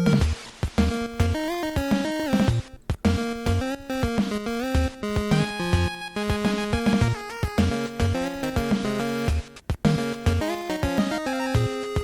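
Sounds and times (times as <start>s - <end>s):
upbeat video game music: 0.0s - 12.0s.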